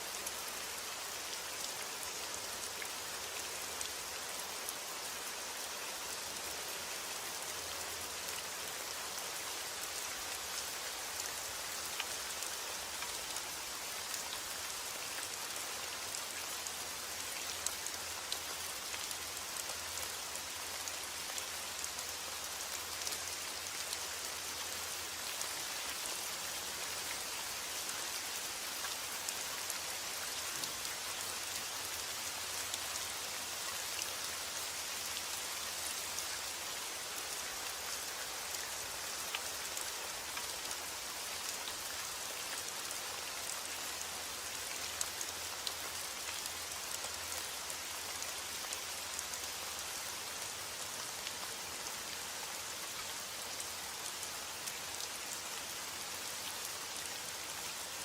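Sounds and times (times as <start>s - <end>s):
rain falling on a surface: 0.0s - 58.0s.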